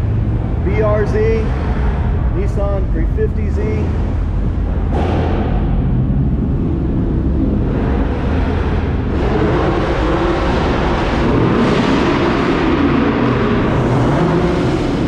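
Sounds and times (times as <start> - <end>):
car engines rumbling past: 0.0 - 15.0.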